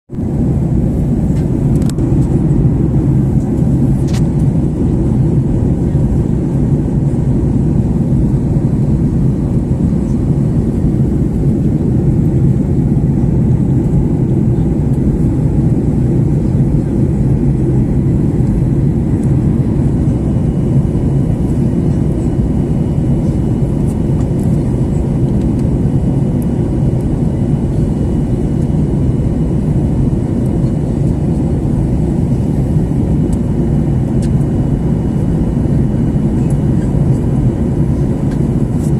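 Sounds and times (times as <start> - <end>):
airliner cabin engine noise: 0.1 - 38.9.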